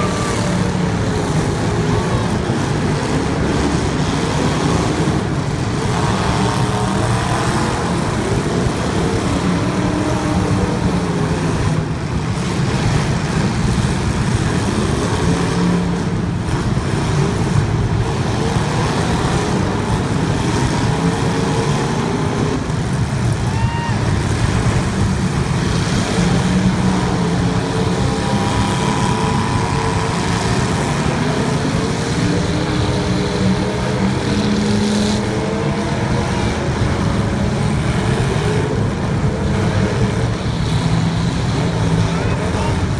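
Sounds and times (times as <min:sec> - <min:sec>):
racing car engines passing: 0:00.0 - 0:42.9.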